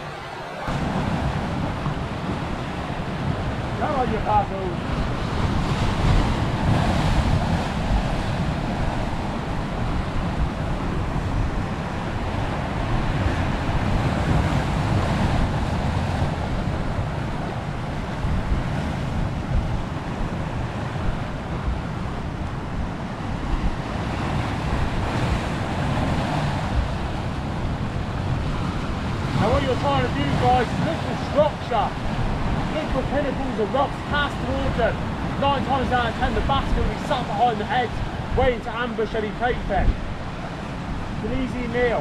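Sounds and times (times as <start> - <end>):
surf breaking over rocks: 0.0 - 42.0
wind buffeting microphone: 0.0 - 42.0.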